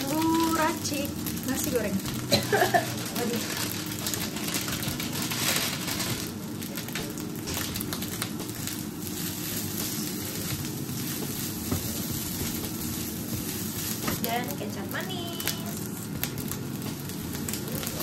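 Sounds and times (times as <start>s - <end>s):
rice sizzling in hot oil: 0.0s - 18.0s.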